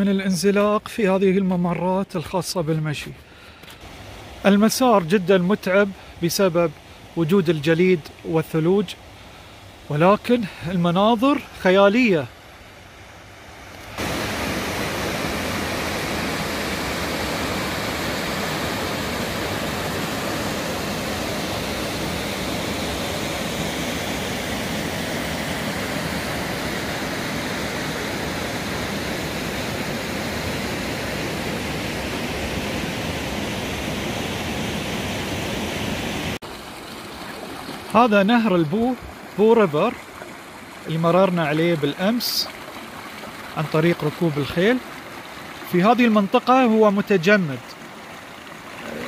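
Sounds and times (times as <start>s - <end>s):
creek water flowing over stones: 2.6s - 35.4s, 36.3s - 49.0s.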